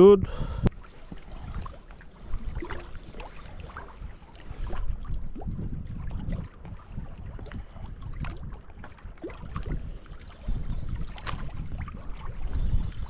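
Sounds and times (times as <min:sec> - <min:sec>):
wind buffeting microphone: 0:00.0 - 0:13.0
small waves lapping on rocks: 0:00.7 - 0:13.0.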